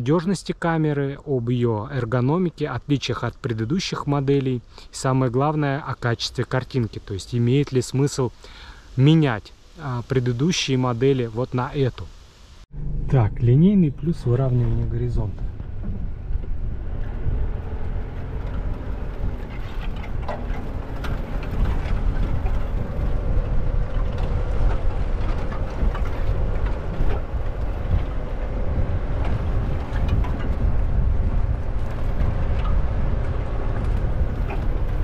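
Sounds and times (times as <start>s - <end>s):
road and wind rumble: 0.0s - 35.0s.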